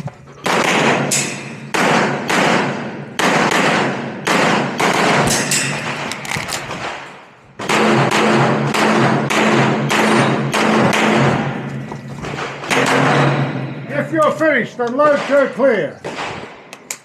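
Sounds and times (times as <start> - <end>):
pistol shots: 0.4 - 13.9, 15.0 - 16.8.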